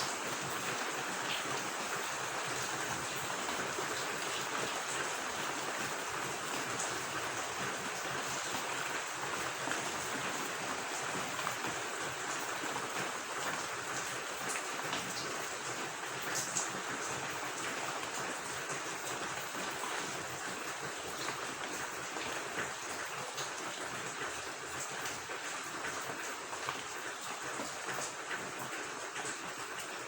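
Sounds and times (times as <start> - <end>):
running water: 0.0 - 30.0
steady rain: 0.0 - 30.0.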